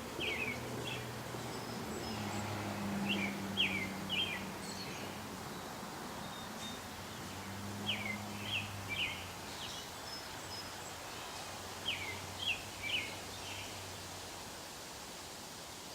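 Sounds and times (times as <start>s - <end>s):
small birds chirping: 0.0s - 14.1s
outdoor background noise: 0.0s - 15.9s.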